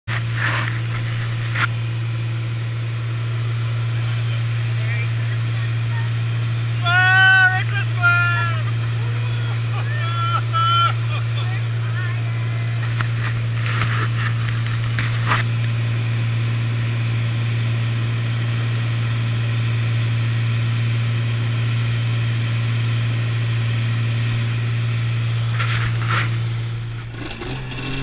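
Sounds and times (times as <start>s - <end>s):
propeller airplane engine droning: 0.1s - 28.0s.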